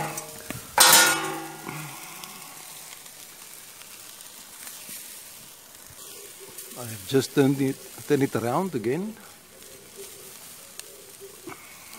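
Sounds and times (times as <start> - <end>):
meat sizzling over charcoal: 0.0 - 11.9.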